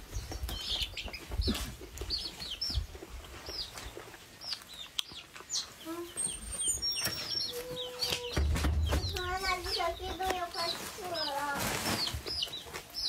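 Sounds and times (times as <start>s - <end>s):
chickens clucking and cheeping: 0.0s - 13.0s.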